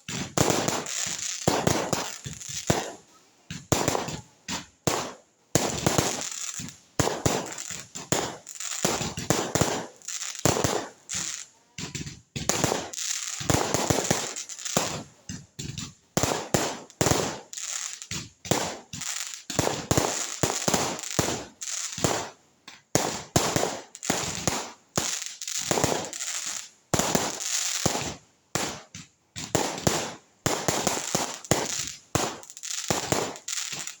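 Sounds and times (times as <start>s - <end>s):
fireworks banging: 0.0s - 34.0s.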